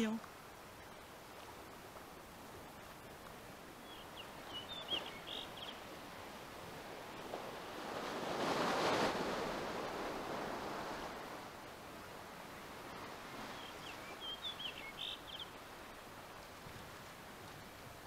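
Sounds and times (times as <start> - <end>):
surf washing over rocks: 0.0 - 18.0.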